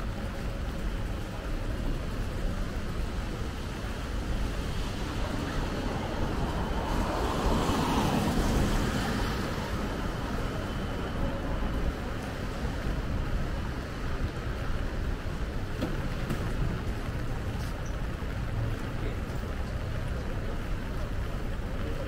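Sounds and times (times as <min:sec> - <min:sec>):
wet road traffic: 0:00.0 - 0:22.0.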